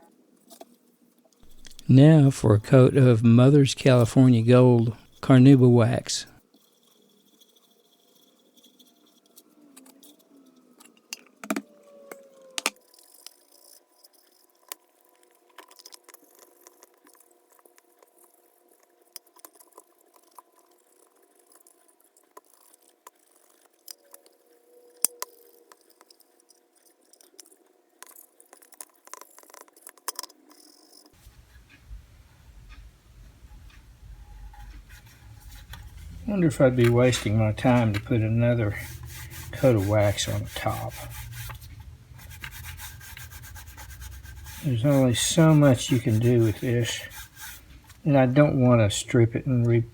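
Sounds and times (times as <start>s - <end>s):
faint steady hum: 0.0s - 22.2s, 30.6s - 49.9s.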